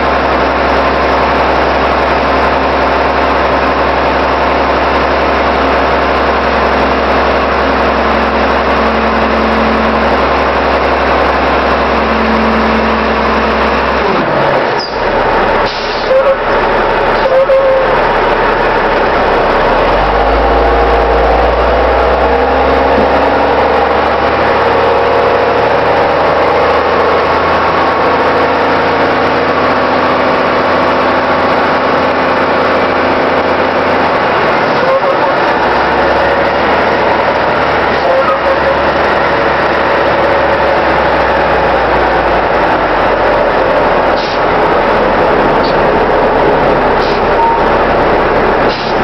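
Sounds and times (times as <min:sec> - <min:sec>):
road noise: 0:00.0 - 0:49.0
truck diesel engine rumbling: 0:00.0 - 0:49.0.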